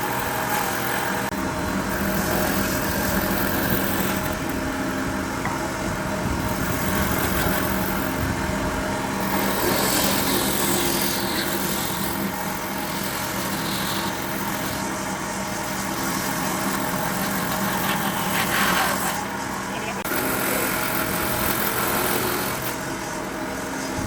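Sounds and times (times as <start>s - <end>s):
power tool working wood: 0.0s - 24.0s.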